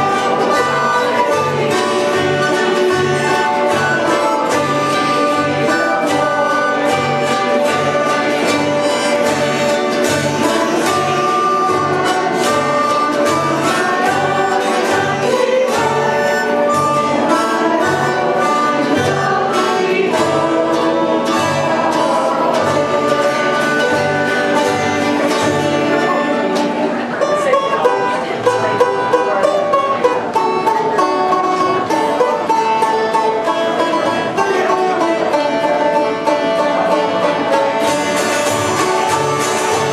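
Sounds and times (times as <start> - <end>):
string instrument music: 0.0 - 39.9.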